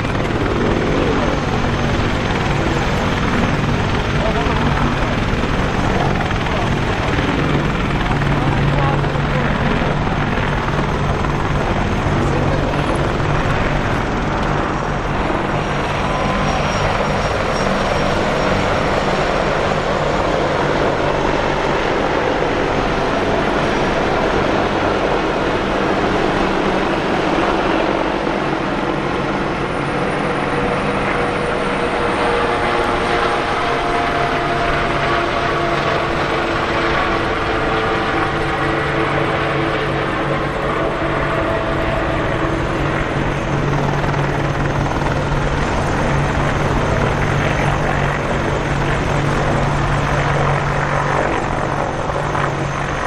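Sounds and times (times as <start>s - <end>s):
helicopter engines and rotors: 0.0s - 53.0s.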